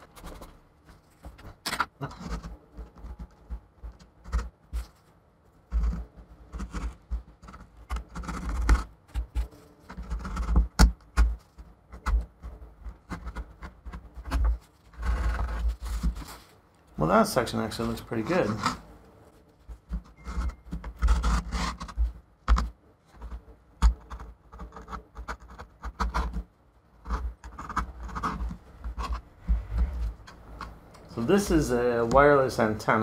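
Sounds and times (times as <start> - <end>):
tape scraping and rubbing: 0.0 - 32.7.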